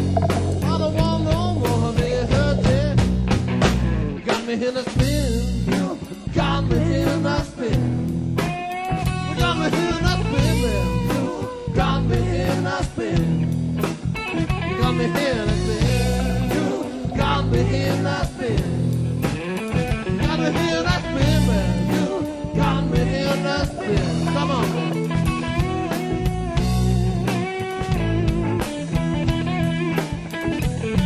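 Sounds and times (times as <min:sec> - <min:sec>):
blues-rock music: 0:00.0 - 0:31.0.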